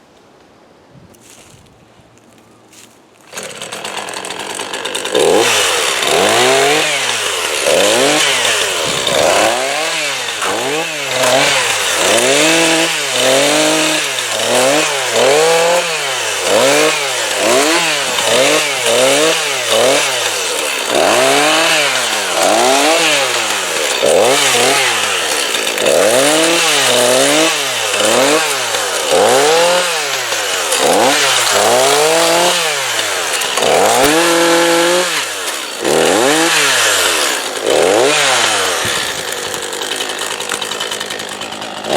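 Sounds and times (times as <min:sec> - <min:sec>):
chainsaw revving: 0:03.3 - 0:41.9.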